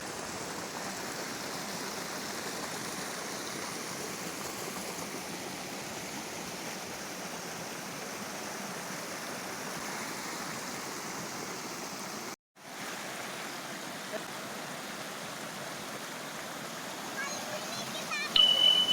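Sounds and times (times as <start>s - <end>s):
river water flowing: 0.0s - 18.9s.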